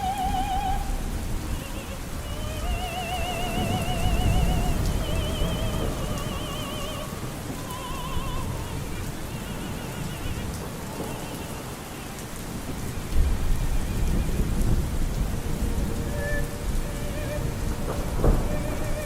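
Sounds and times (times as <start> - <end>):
low thunder rumble: 0.0 - 19.0
operatic singing with vibrato: 0.0 - 19.0
steady rain: 0.0 - 19.0.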